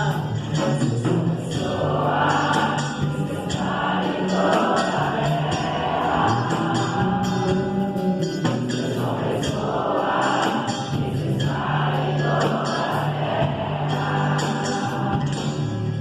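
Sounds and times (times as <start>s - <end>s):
choir-like voices: 0.0s - 16.0s
worship band playing: 0.0s - 16.0s.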